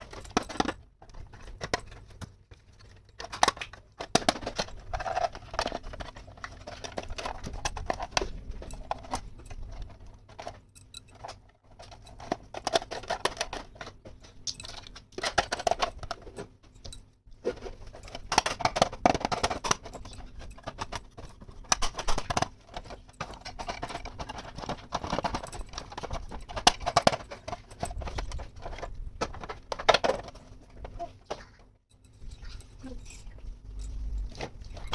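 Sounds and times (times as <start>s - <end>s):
plastic toy pieces clattering: 0.0s - 34.9s.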